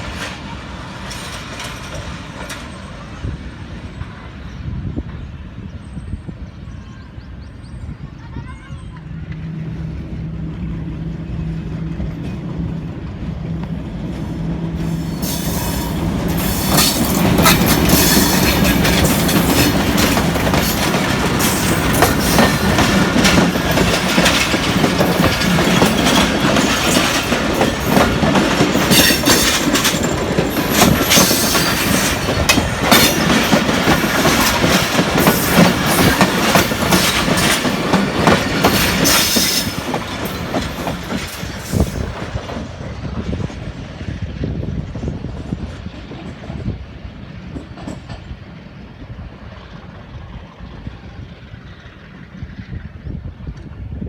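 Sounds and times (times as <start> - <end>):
train wheels clattering over rails: 0.0 - 4.4, 11.8 - 53.8
diesel locomotive engine hum: 0.0 - 54.0.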